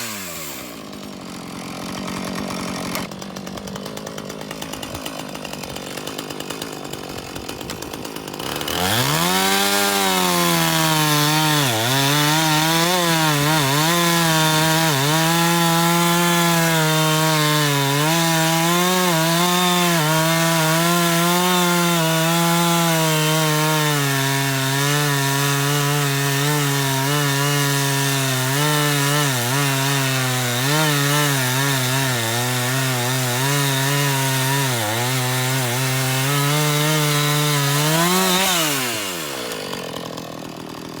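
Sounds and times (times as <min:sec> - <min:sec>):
chainsaw cutting a log: 0:00.0 - 0:41.0.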